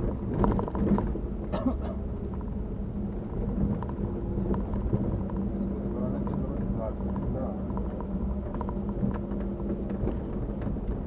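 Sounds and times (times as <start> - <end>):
car engine hum inside cabin: 0.0 - 11.0
road rumble: 0.0 - 11.0.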